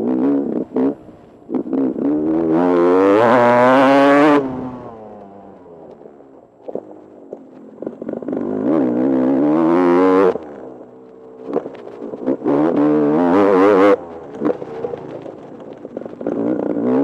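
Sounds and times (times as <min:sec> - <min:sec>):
dirt bike engine revving: 0:00.0 - 0:05.7, 0:07.7 - 0:17.0.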